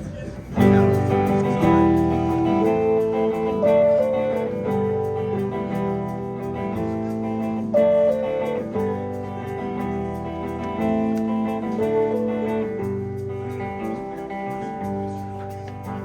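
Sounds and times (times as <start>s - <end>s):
bass guitar: 0.6s - 16.0s
guitar chords and melody: 0.6s - 16.0s.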